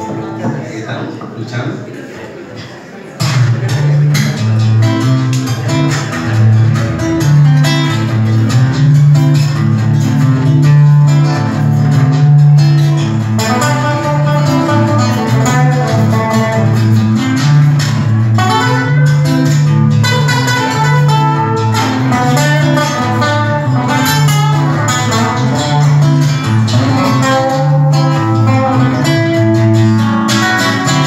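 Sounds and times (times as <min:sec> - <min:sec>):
nylon-string guitar plucked notes: 0:00.0 - 0:00.6, 0:03.2 - 0:31.0
guitar low bass notes: 0:03.2 - 0:31.0.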